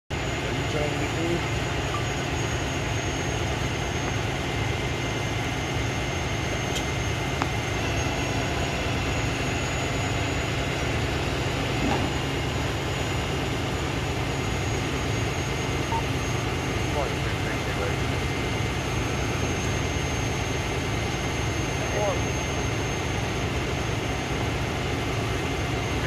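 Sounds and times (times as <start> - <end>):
diesel truck engines rumbling: 0.1 - 26.0.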